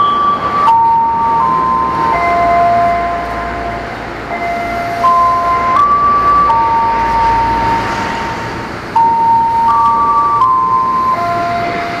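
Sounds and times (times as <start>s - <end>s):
slow electronic tune: 0.0s - 8.4s, 9.0s - 12.0s
electric train low rumble: 0.0s - 12.0s.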